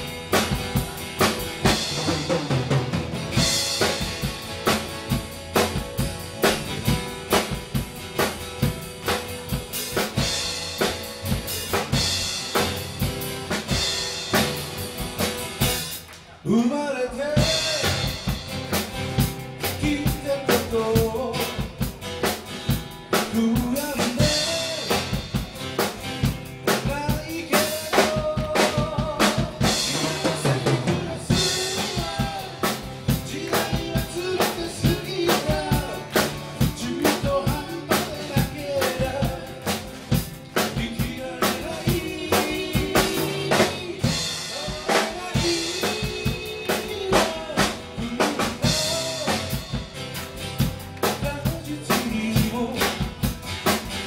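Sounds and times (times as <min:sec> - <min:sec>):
drum kit beat: 0:00.0 - 0:16.2, 0:17.3 - 0:54.0
strummed guitars: 0:00.0 - 0:16.3, 0:17.1 - 0:54.0.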